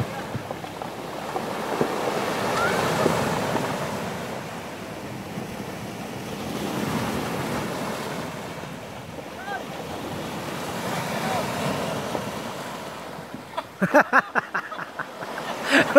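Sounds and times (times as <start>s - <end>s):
wind buffeting microphone: 0.0s - 13.5s
sea waves in shallow surf: 0.0s - 15.9s.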